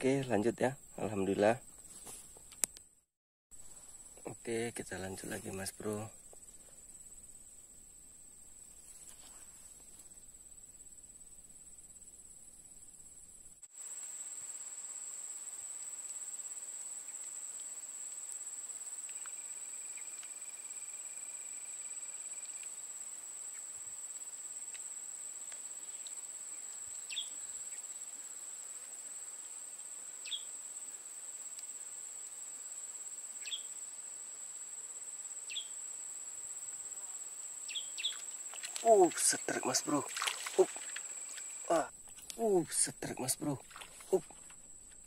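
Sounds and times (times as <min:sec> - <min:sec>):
insects trilling: 0:00.0 - 0:02.9, 0:03.6 - 0:45.0.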